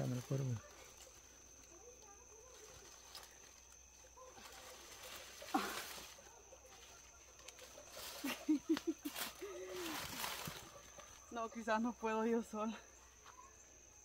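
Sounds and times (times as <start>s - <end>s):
leaves rustling: 0.0s - 12.2s.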